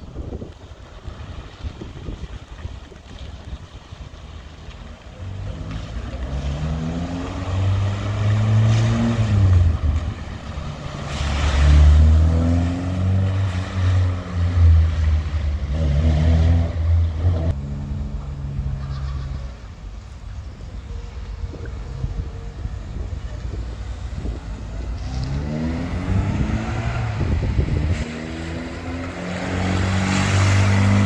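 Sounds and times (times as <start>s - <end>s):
car engines revving: 0.5s - 31.0s.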